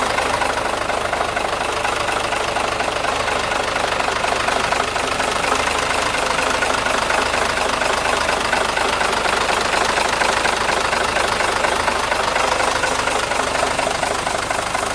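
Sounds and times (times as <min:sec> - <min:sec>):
diesel truck engine idling: 0:00.0 - 0:14.9.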